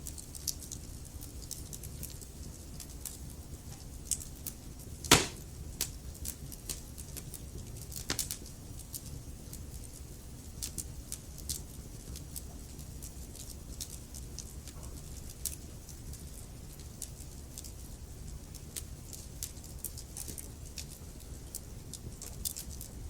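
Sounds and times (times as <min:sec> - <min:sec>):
log fire crackling: 0:00.0 - 0:23.0
low rumble of flames: 0:00.2 - 0:23.0.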